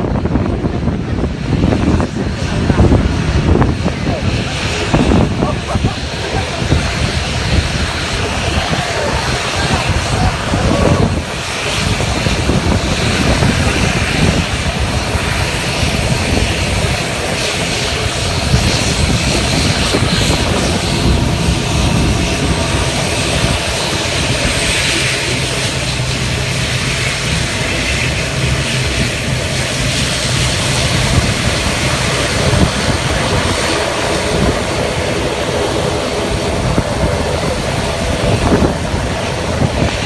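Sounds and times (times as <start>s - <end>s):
airliner engines at high power: 0.0s - 40.0s.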